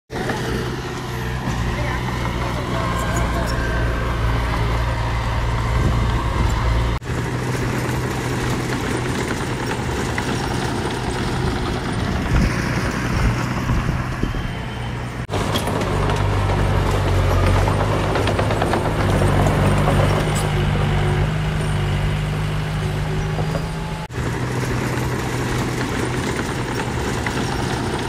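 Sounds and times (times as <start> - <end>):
heavy machinery engines running: 0.1 - 28.0.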